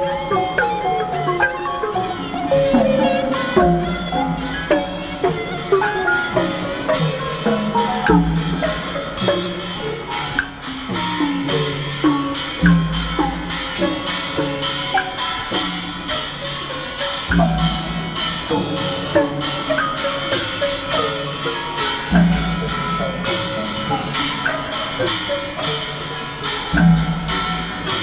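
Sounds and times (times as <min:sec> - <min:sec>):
deep drum strokes: 0:00.0 - 0:28.0
drums: 0:00.0 - 0:28.0
sharp clicks keeping time: 0:00.0 - 0:28.0
struck pitched notes sliding down: 0:00.0 - 0:28.0.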